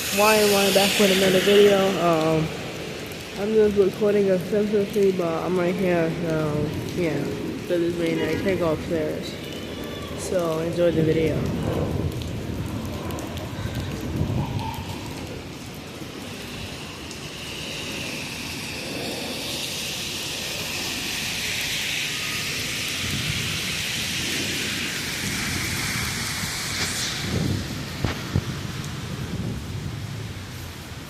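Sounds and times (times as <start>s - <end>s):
heavy rumble and hiss: 0.0s - 9.2s, 10.3s - 31.0s
steady rain: 0.0s - 31.0s.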